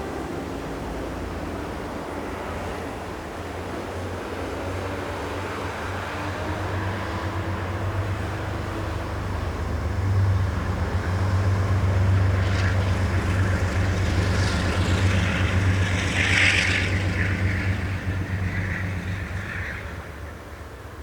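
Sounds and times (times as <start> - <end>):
higher-pitched train noise: 0.0 - 21.0
train engine rumbling: 0.0 - 21.0.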